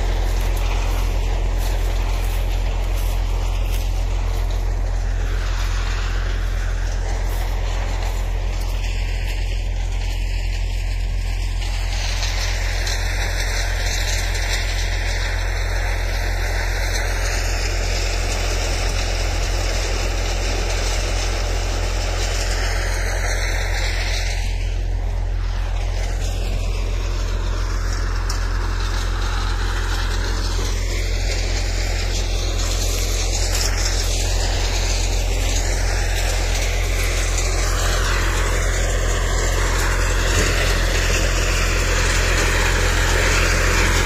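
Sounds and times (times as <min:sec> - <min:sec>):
chaff cutter machine running: 0:00.0 - 0:44.0.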